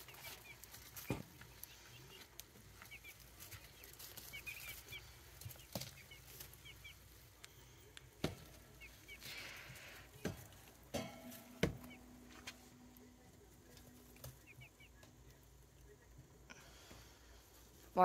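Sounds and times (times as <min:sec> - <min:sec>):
young poultry peeping: 0:00.0 - 0:16.4.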